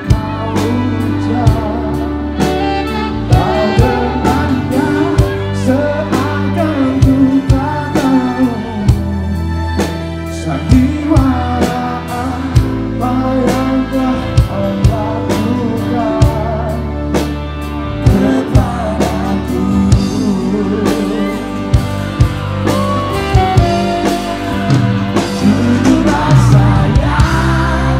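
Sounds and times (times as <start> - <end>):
male vocalist singing: 0.0 - 17.3, 17.9 - 27.9
drums and bass beat: 0.0 - 27.9.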